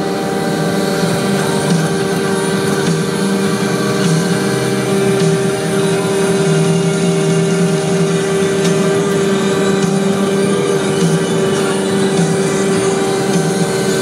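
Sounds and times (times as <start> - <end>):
constant held tone: 0.0 - 14.0
machine engine running: 0.0 - 14.0.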